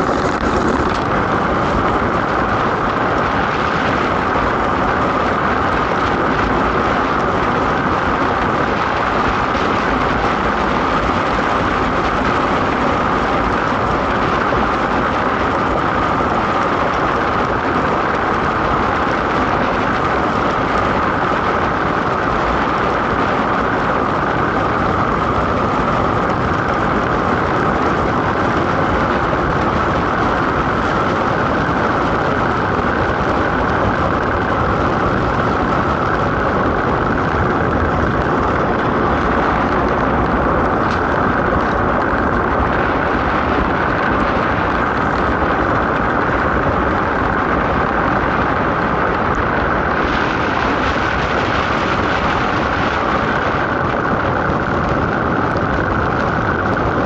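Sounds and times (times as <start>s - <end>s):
rushing air: 0.0s - 57.0s.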